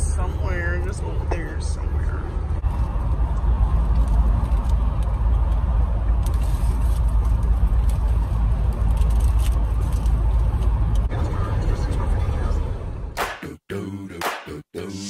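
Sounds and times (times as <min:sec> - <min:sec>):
car road and engine rumble: 0:00.0 - 0:13.2.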